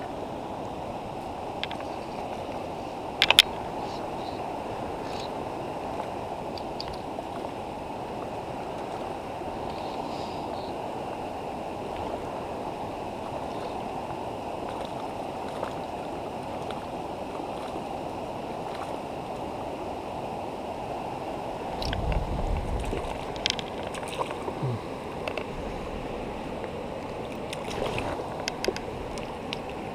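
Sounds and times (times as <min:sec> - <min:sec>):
river flowing over stones: 0:00.0 - 0:29.9.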